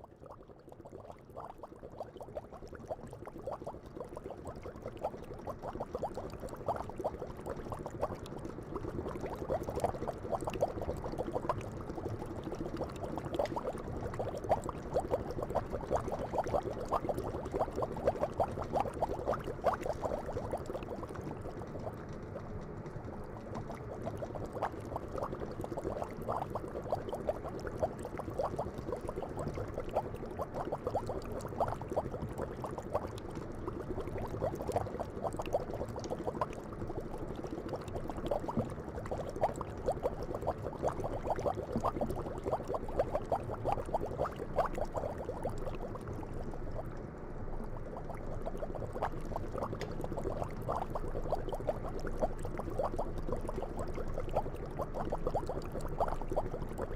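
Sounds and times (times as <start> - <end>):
tea boiling with bubbles popping: 0.0 - 47.0, 47.6 - 56.9.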